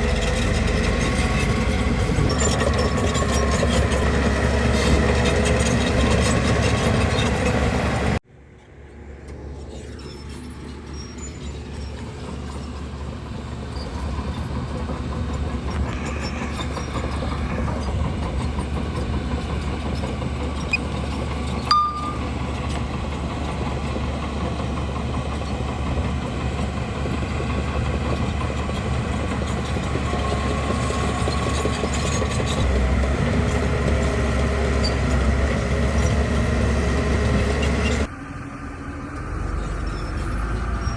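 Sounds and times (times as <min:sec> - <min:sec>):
bulldozer diesel engine running: 0:00.0 - 0:08.2, 0:10.0 - 0:40.9.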